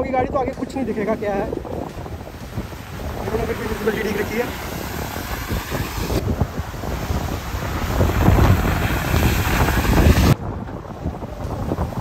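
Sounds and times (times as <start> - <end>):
water splashing and rushing: 0.0 - 12.0
wind noise on microphone: 0.0 - 12.0.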